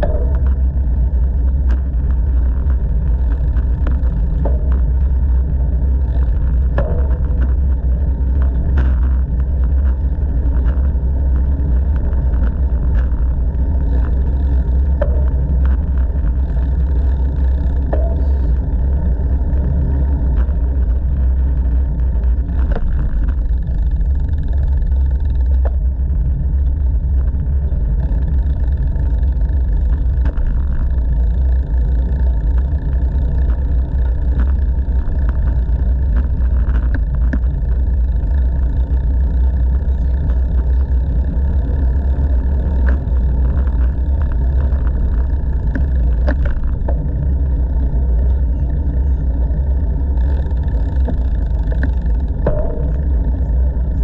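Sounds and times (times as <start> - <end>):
bicycle tyres rolling on pavement: 0.0 - 54.0
wind rumbling on microphone: 0.0 - 54.0.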